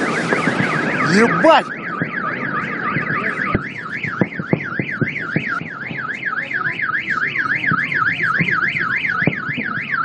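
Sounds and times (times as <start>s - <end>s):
car alarm wailing: 0.0s - 10.0s.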